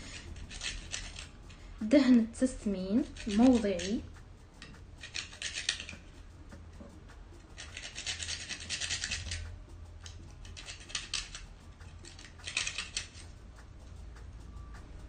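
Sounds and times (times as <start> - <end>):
nutmeg grating rasping scrapes: 0.0 - 14.9.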